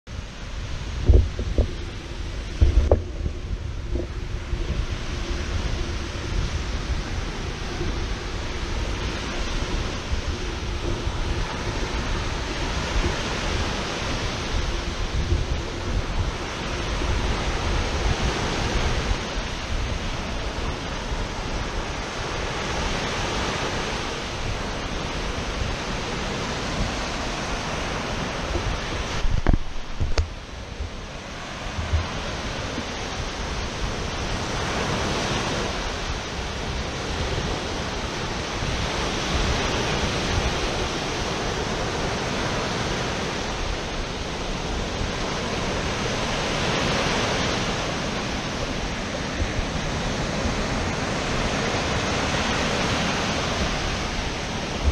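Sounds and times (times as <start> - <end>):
waves breaking on shore: 0.1 - 54.9
wind rumbling on microphone: 0.1 - 54.9.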